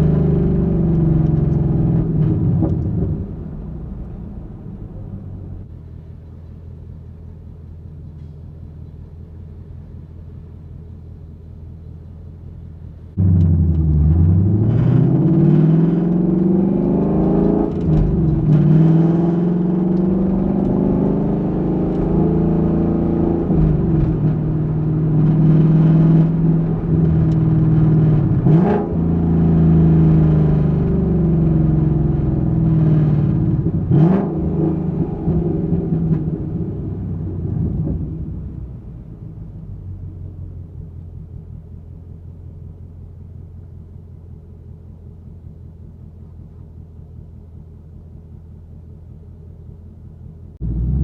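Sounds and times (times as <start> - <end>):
car engine exhaust changing gears: 0.0 - 51.0.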